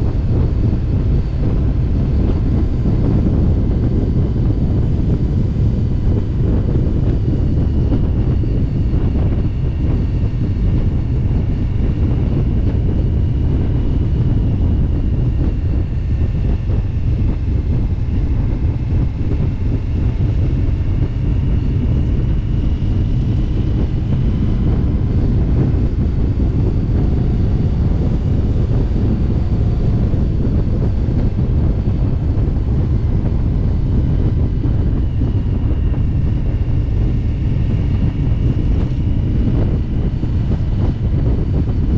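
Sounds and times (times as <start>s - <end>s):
motorcycle engine droning: 0.0s - 41.9s
wind rushing over microphone: 0.0s - 41.9s.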